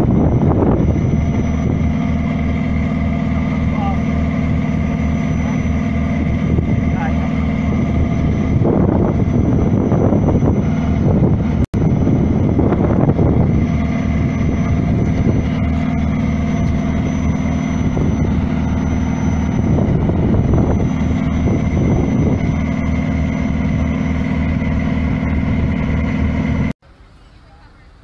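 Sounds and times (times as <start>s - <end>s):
faint high whine: 0.0s - 28.0s
heavy diesel engine running: 0.0s - 28.0s.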